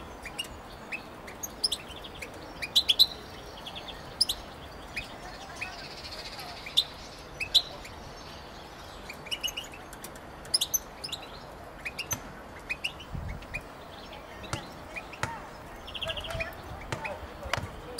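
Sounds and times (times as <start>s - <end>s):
goldfinches chirping and twittering: 0.0s - 17.9s.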